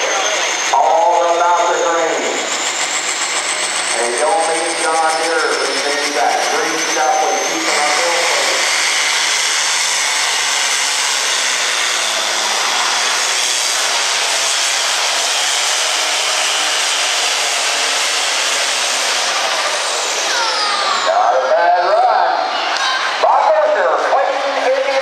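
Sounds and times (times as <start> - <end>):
diesel engine roaring: 0.0 - 25.0
high turbo whine: 0.0 - 25.0.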